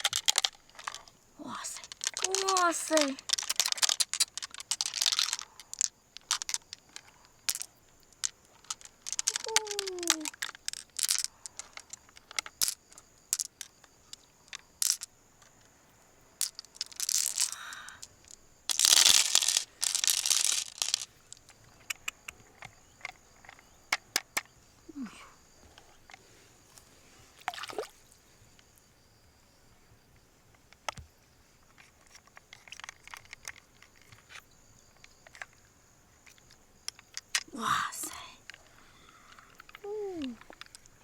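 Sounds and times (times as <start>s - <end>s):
shell clicks and scraping: 0.0s - 15.7s, 16.4s - 24.6s, 30.7s - 35.6s, 36.2s - 41.0s.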